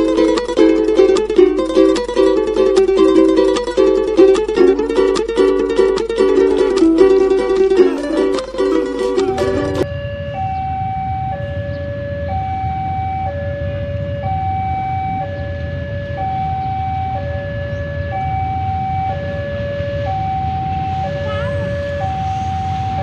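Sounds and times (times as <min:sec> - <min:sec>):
level crossing two-tone alarm: 0:00.0 - 0:05.5, 0:06.2 - 0:23.0.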